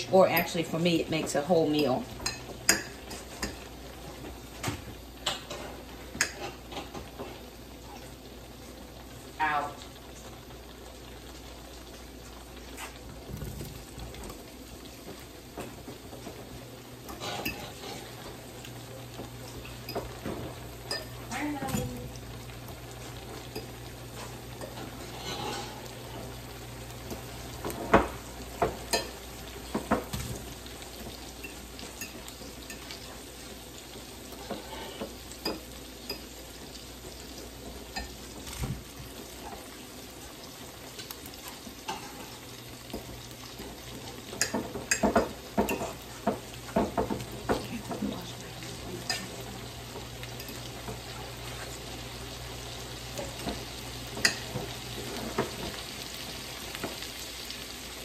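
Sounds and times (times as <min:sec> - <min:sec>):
sausage sizzling in a pan: 0:00.0 - 0:58.0.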